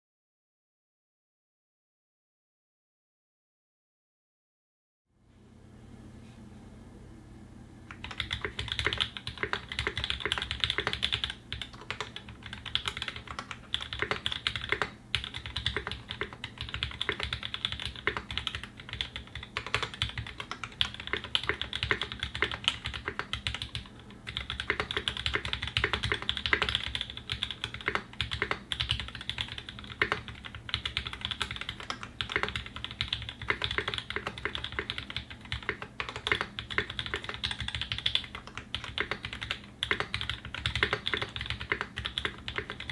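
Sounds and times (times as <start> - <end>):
fast typing on mechanical keyboard: 7.9 - 42.9.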